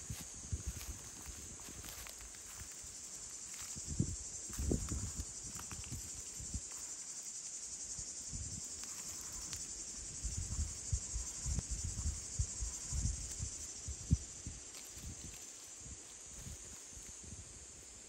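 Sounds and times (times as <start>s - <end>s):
insects chirring: 0.0s - 18.0s
dry twigs rustling and knocking: 0.1s - 7.1s, 8.5s - 13.8s, 14.7s - 17.1s.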